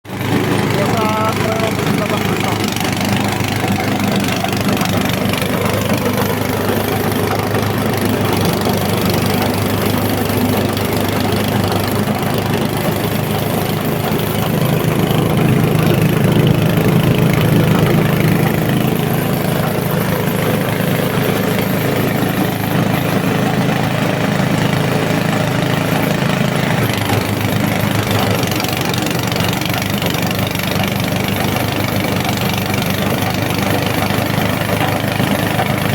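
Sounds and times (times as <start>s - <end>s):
shredding machine hum: 0.0s - 35.9s.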